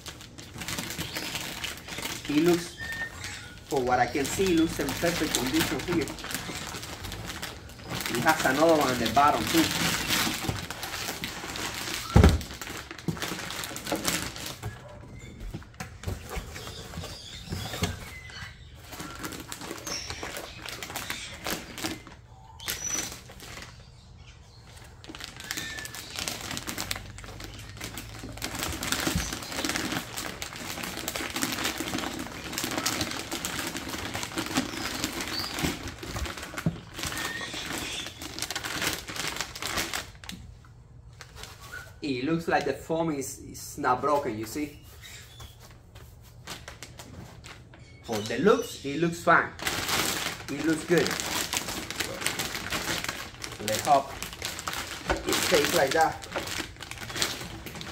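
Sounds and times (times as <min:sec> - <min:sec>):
foam and cardboard box rustling: 0:00.1 - 0:14.8, 0:15.4 - 0:23.8, 0:24.8 - 0:40.3, 0:49.6 - 0:57.9.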